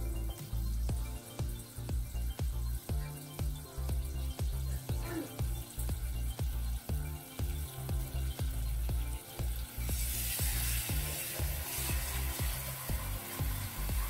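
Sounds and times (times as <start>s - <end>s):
background music with beat: 0.0s - 14.0s
sauce sizzling and bubbling: 0.0s - 14.0s.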